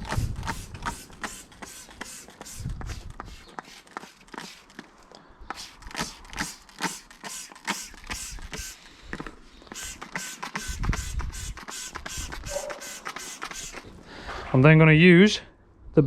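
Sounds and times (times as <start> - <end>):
spray bottle squirts: 0.0 - 14.3.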